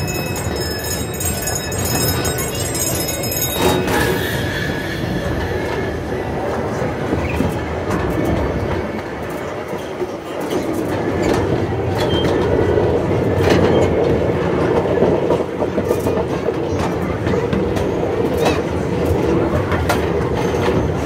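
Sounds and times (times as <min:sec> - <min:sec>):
miniature train rumbling: 0:00.0 - 0:21.0
wheels clicking on rails: 0:00.0 - 0:21.0.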